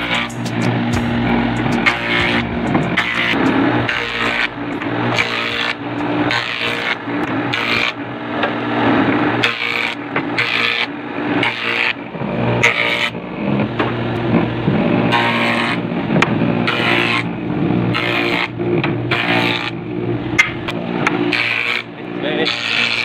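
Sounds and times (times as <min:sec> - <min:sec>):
power saw cutting wood: 0:00.0 - 0:23.0.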